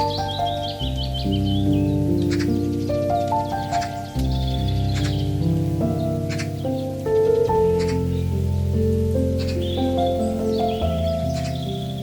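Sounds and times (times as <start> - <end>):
soft slow piano music: 0.0 - 12.0.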